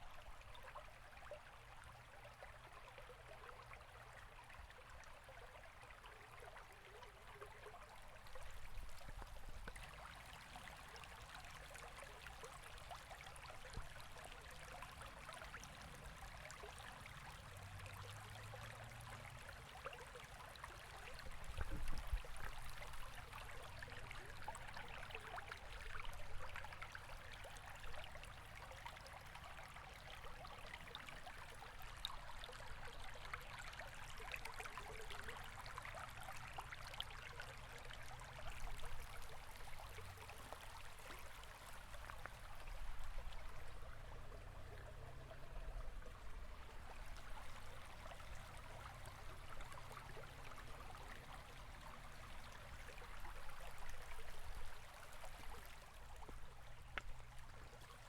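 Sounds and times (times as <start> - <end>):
river water flowing over stones: 6.2 - 58.0.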